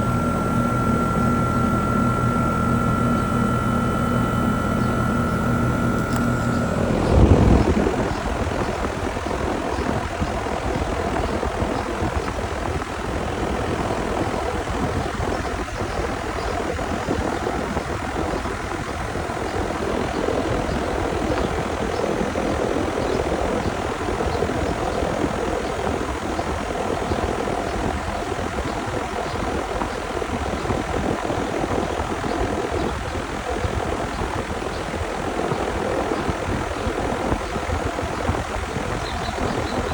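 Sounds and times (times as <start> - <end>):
condenser fan blowing air: 0.0 - 39.9
steady hum with held tone: 0.0 - 39.9.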